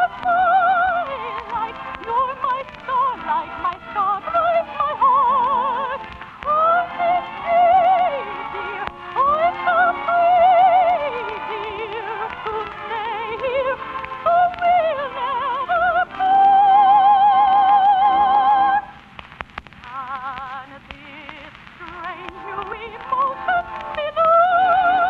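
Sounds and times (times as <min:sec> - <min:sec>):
orchestral operetta music: 0:00.0 - 0:18.9, 0:22.0 - 0:25.0.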